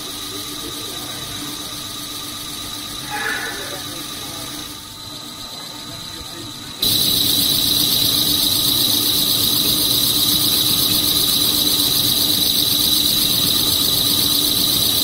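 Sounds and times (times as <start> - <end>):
extruder mechanical hiss: 0.0 - 15.0
high-pitched machine whine: 0.0 - 15.0
low machine hum: 0.0 - 15.0.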